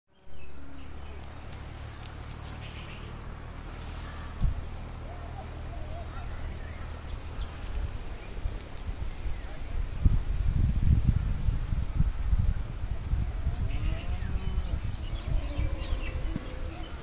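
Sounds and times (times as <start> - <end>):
wind buffeting microphone: 0.3 - 17.0.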